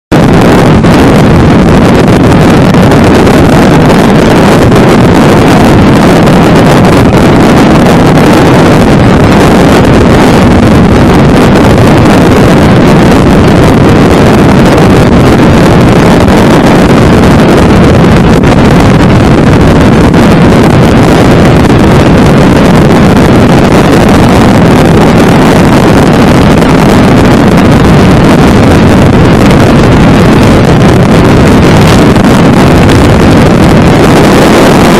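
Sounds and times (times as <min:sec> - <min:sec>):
loud wind rushing around car: 0:00.0 - 0:34.9.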